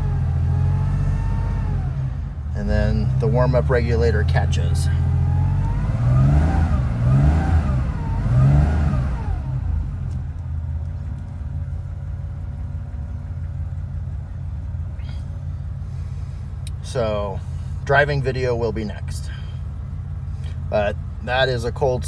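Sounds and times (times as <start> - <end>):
car engine running fast: 0.0 - 22.0.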